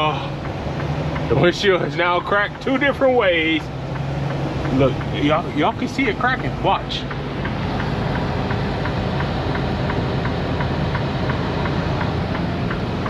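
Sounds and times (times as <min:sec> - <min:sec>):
diesel engine and road noise: 0:00.0 - 0:13.0
light regular ticking: 0:00.0 - 0:13.0.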